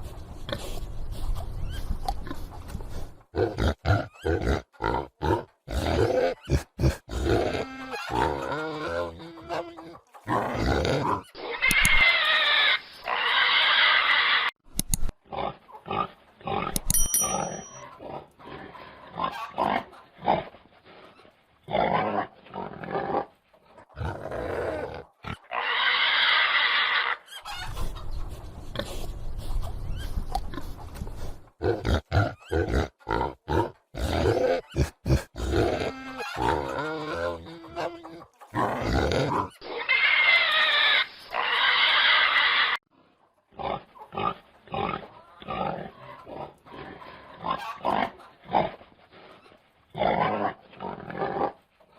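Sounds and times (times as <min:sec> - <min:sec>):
pigs grunting and oinking: 0:00.4 - 0:14.5, 0:15.1 - 0:29.1, 0:29.8 - 0:42.8, 0:43.5 - 0:51.9.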